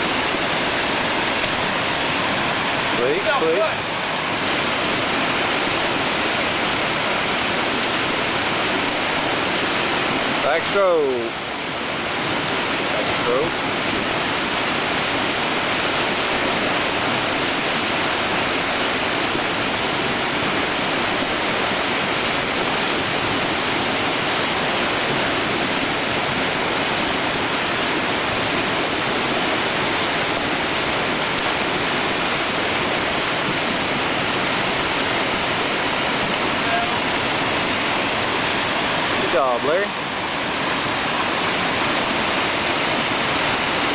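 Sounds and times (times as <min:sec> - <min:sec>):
whitewater rushing: 0:00.0 - 0:43.9.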